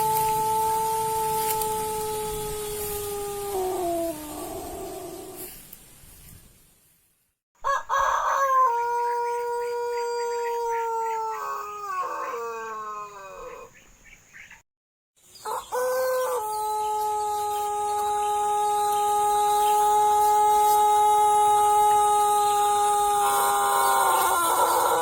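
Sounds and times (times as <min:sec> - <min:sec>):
rooster crowing: 0:00.0 - 0:05.3, 0:07.6 - 0:13.7, 0:15.4 - 0:25.0.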